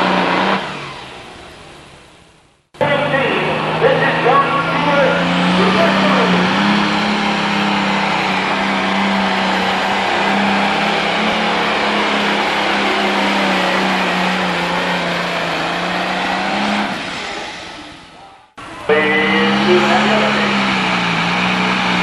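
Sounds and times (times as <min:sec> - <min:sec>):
tractor engine at full load: 0:00.0 - 0:22.0.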